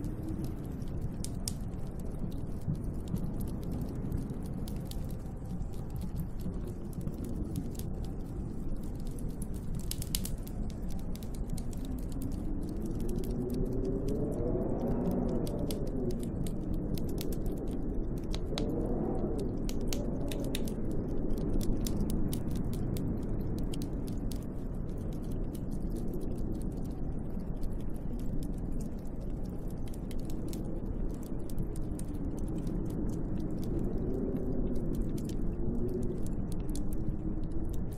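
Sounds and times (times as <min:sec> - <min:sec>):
faint small ticks: 0:00.0 - 0:37.9
howling wind: 0:00.0 - 0:37.9.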